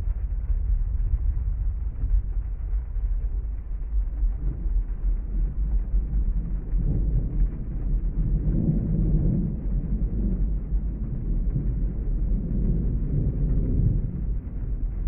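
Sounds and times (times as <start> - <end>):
rain: 0.0 - 15.0
rolling thunder rumble: 0.0 - 15.0.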